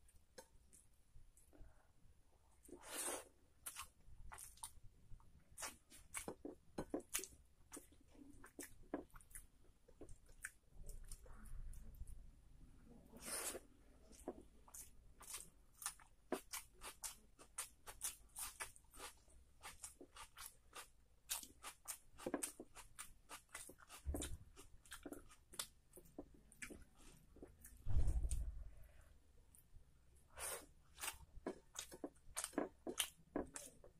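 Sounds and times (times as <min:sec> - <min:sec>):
person chewing food: 0:02.5 - 0:12.2, 0:13.1 - 0:28.5, 0:30.3 - 0:33.9.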